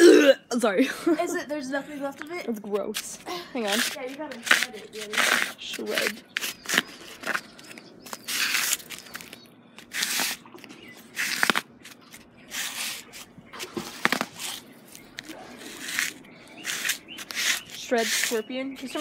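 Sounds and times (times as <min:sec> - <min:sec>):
rubber sole scraping on concrete: 0:02.7 - 0:19.0.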